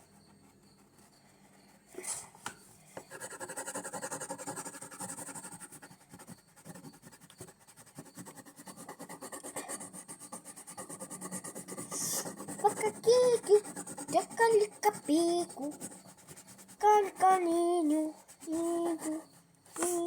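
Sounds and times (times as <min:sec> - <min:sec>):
pencil scribbling on paper: 0:00.1 - 0:02.4, 0:03.0 - 0:20.0.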